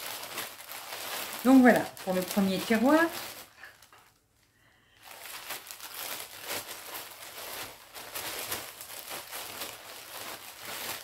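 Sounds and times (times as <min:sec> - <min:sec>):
packaging crinkling: 0:00.0 - 0:04.3, 0:05.0 - 0:11.0.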